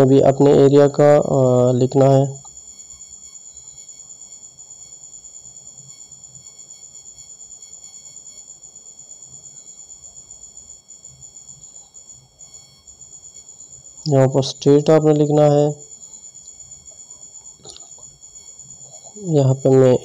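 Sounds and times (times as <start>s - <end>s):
pulsing high-pitched chirring: 0.0s - 20.0s.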